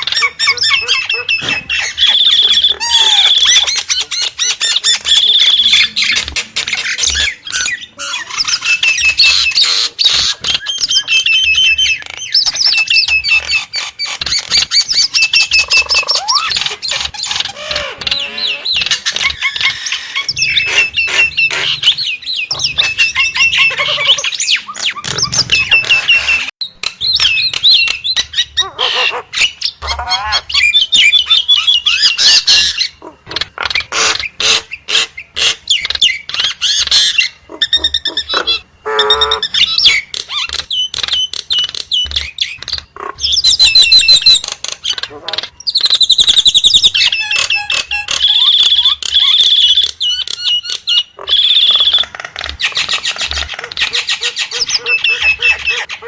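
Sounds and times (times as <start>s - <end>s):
myna calling: 0.0s - 26.5s, 28.1s - 40.4s, 43.0s - 49.8s, 50.4s - 56.0s.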